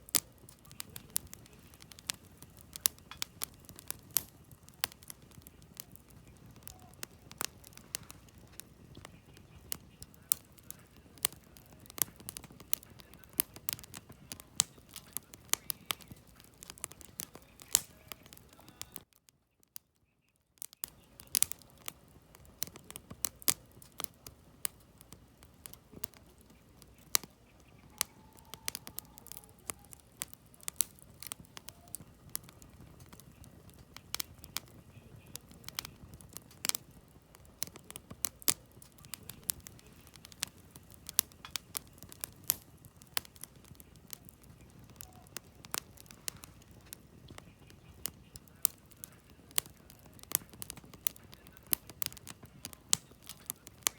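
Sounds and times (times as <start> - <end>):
rush of flame: 0.0 - 19.1, 20.9 - 53.9
campfire crackling and popping: 0.0 - 53.9.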